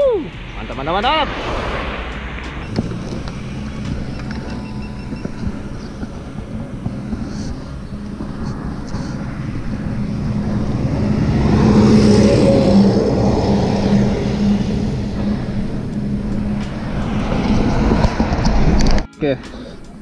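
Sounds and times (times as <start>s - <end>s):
truck passing by: 0.0s - 19.1s.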